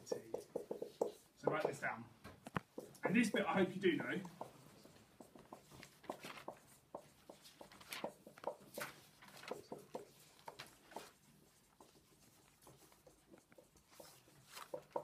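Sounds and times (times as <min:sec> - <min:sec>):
marker squeaking on whiteboard: 0:00.0 - 0:01.8, 0:02.6 - 0:15.0.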